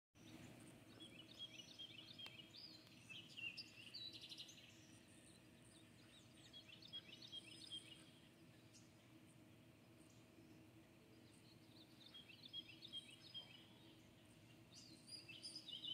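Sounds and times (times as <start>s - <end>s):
low steady hum: 0.2s - 15.9s
songbird chirping: 0.2s - 15.9s.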